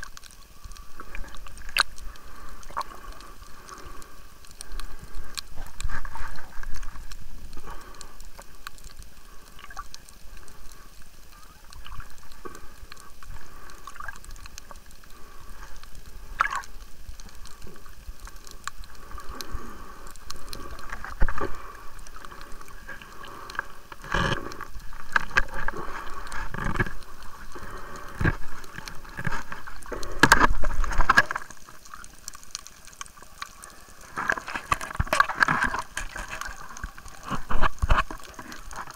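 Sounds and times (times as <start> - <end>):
water sloshing and splashing: 0.0 - 10.5, 11.4 - 38.9.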